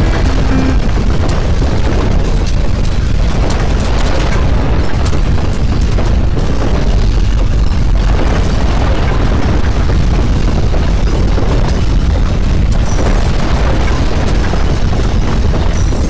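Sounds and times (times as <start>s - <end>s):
earthquake rumble: 0.0s - 16.0s.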